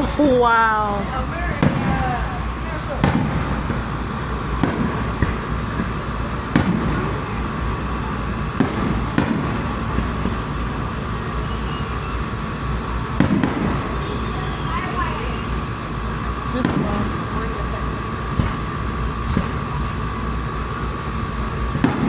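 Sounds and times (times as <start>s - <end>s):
fireworks bursting with sharp bangs: 0.0s - 22.0s
steady background hum: 0.0s - 22.0s.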